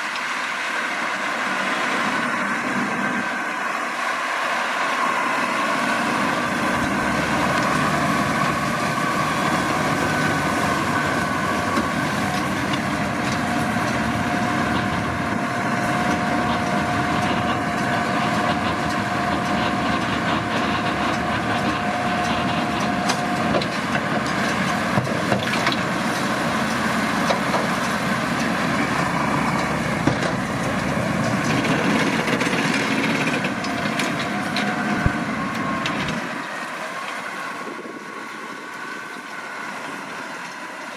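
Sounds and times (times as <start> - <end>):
mechanical driveline whine: 0.0 - 40.9
tractor running: 0.0 - 40.9.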